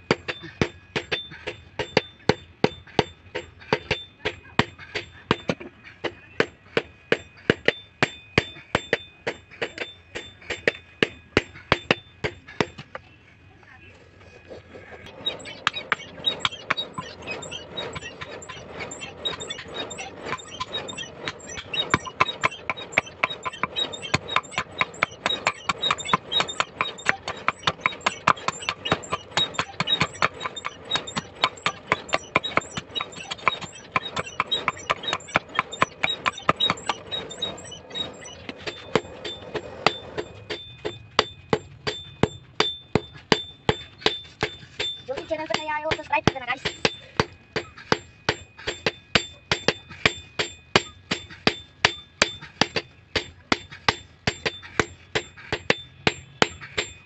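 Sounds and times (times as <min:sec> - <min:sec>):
hammers ringing on anvil: 0:00.0 - 0:13.1, 0:15.0 - 0:57.0.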